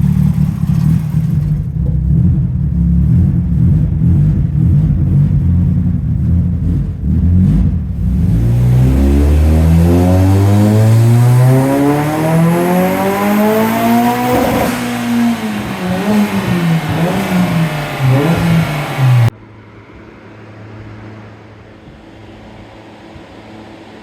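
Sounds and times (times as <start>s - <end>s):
car engine revving: 0.0s - 19.4s.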